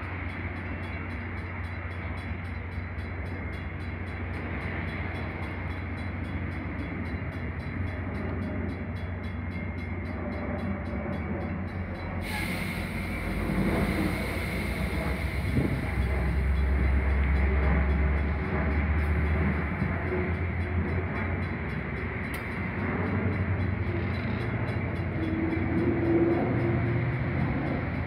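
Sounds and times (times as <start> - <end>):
train idling with low hum: 0.0 - 28.0.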